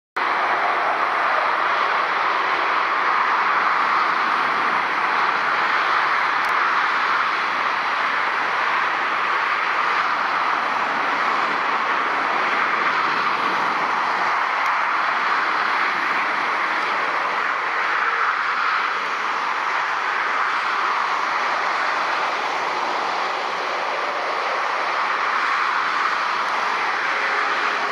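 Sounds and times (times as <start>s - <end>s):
distant traffic rushing: 0.2s - 27.9s.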